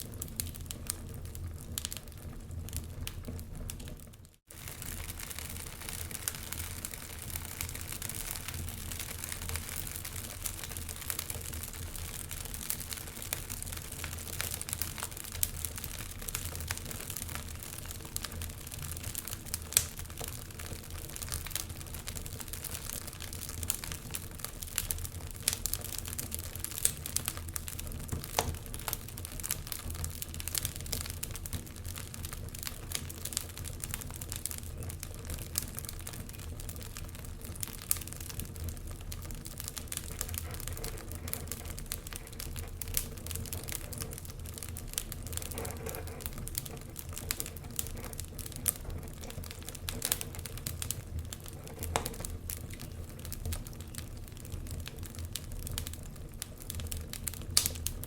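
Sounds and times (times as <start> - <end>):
fire pops and snaps: 0.0 - 58.0
low rumble of flames: 0.0 - 58.0
wood fire crackling: 0.0 - 58.0.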